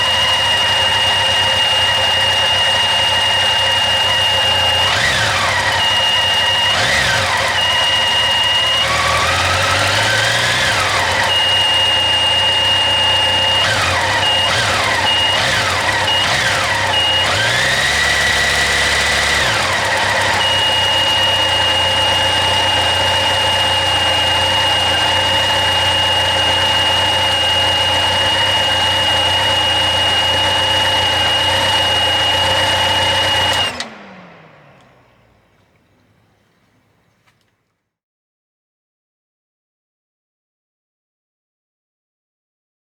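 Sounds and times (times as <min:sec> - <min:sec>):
high steady water pump whine: 0:00.0 - 0:37.3
motorcycle engine revving and idling: 0:00.0 - 0:37.4.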